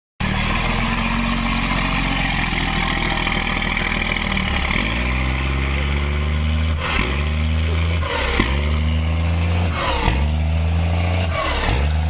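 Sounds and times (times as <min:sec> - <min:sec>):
diesel truck engine idling and revving: 0:00.2 - 0:12.0.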